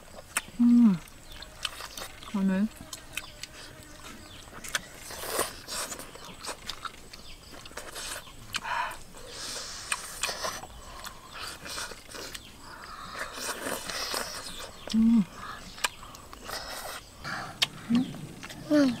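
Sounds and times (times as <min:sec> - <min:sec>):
people chewing meat: 0:00.0 - 0:19.0.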